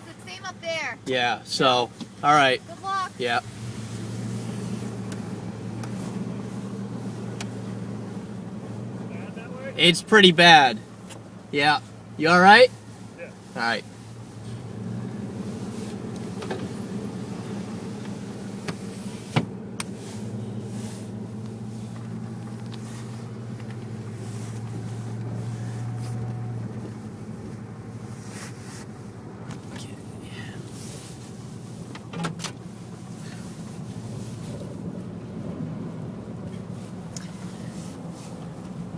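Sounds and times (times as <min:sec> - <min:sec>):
car engine drone: 0:00.0 - 0:38.9.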